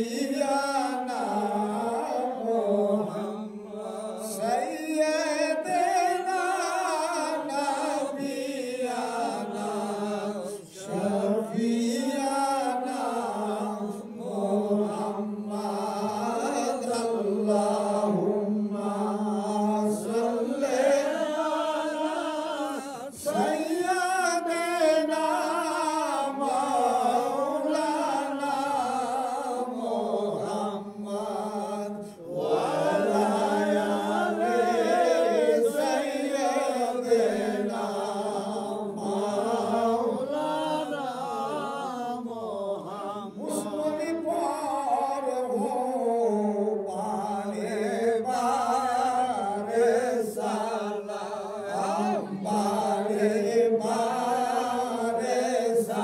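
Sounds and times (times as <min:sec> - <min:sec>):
devotional chanting: 0:00.0 - 0:56.0.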